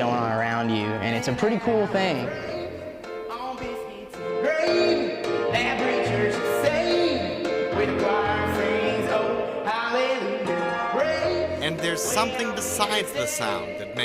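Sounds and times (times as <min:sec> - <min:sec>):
country singing with instruments: 0:00.0 - 0:14.0.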